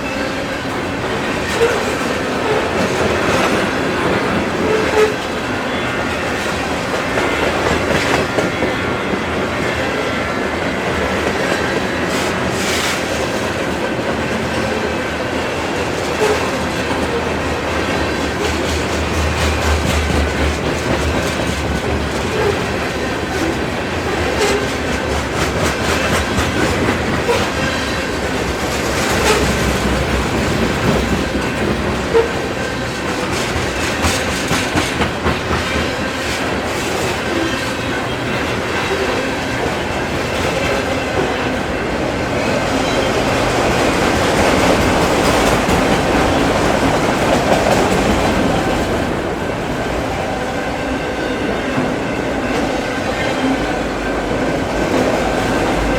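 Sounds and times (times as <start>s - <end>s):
wheel squeal on rail: 0.0s - 10.2s, 14.2s - 49.1s, 50.0s - 55.9s
train wheels clacking over rail joints: 0.0s - 50.2s.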